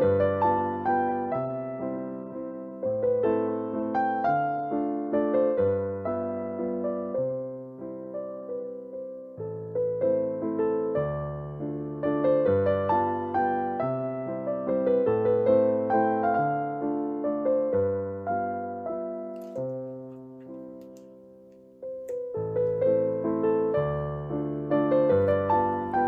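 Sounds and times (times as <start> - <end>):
electric piano melody: 0.0 - 26.0.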